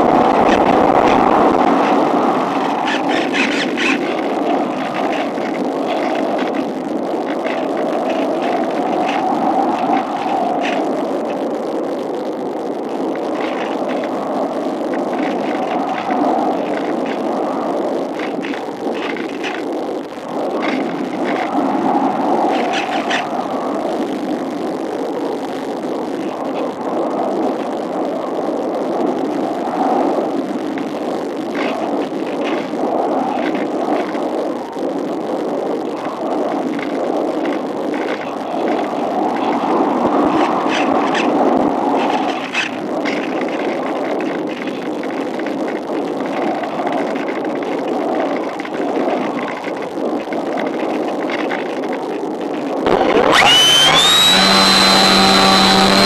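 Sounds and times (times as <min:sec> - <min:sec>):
rushing wind noise: 0:00.0 - 0:56.0
short crackles: 0:00.0 - 0:56.0.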